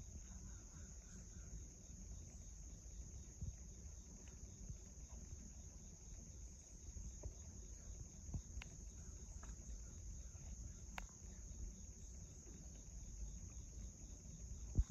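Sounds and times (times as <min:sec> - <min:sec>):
high-pitched insect chorus: 0:00.0 - 0:14.9.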